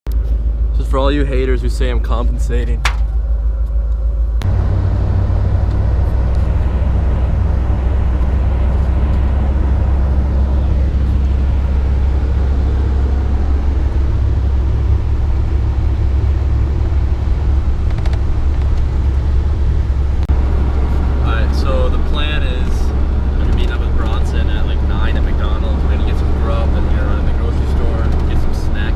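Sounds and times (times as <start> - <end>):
pickup truck engine drone: 0.1 - 28.9
road noise: 0.1 - 28.9.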